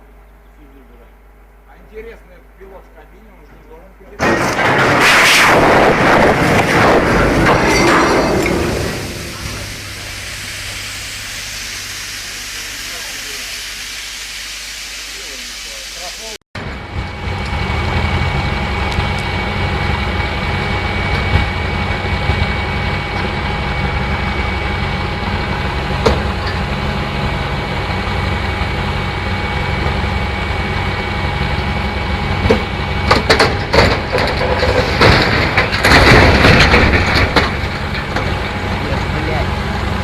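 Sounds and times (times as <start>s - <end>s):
heavy diesel engine running: 4.2s - 40.0s
loud rough rushing noise: 4.2s - 40.0s.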